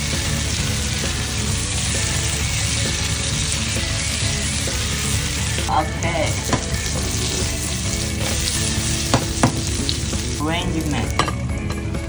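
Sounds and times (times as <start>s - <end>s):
food sizzling in a pan: 0.0s - 11.3s.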